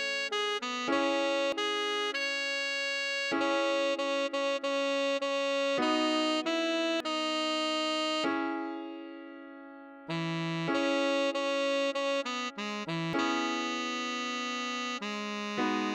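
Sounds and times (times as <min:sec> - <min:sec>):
tenor saxophone melody: 0:00.0 - 0:09.1, 0:10.1 - 0:15.9.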